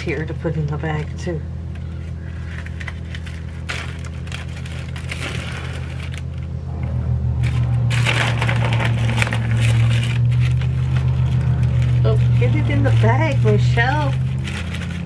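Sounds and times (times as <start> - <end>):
low mechanical drone: 0.0 - 15.0
plastic bags crinkling: 1.7 - 6.6, 7.4 - 15.0.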